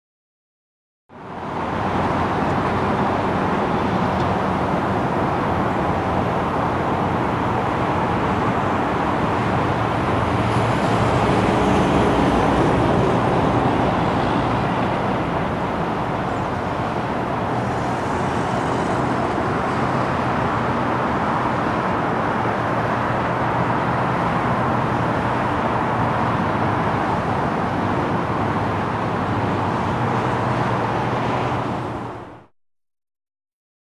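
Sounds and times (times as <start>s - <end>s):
rush of traffic: 1.1s - 32.5s.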